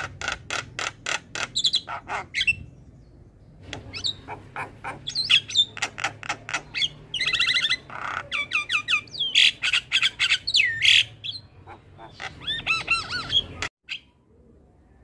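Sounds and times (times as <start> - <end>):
bird singing varied song: 0.0 - 15.0.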